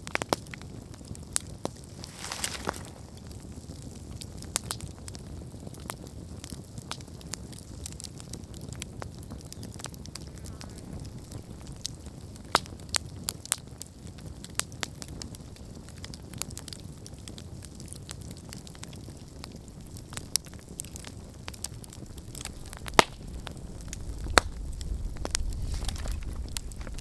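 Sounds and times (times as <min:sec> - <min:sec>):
campfire flames rumbling: 0:00.0 - 0:27.0
fire crackling and popping: 0:00.0 - 0:27.0.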